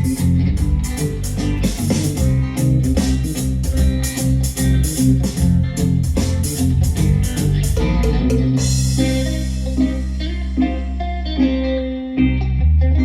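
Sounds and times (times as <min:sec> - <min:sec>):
guitar band music: 0:00.0 - 0:13.0.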